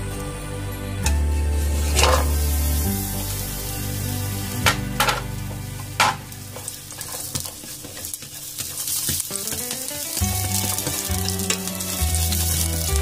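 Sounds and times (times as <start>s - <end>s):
background music with low notes: 0.0s - 7.8s, 9.2s - 13.0s
garlic sizzling in hot oil: 1.0s - 13.0s.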